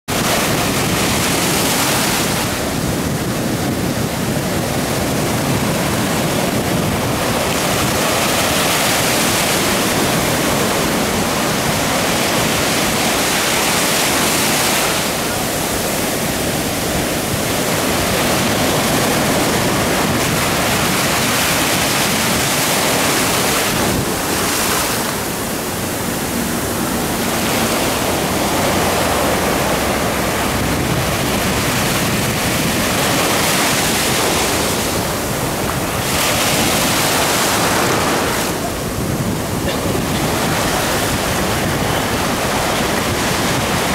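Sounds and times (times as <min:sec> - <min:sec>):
ocean surf breaking: 0:00.1 - 0:43.9.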